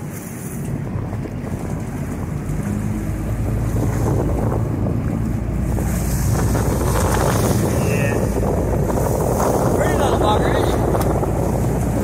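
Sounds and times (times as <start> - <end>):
boat engine running: 0.0 - 12.0
water rushing past hull: 0.0 - 12.0
wind buffeting microphone: 0.0 - 12.0.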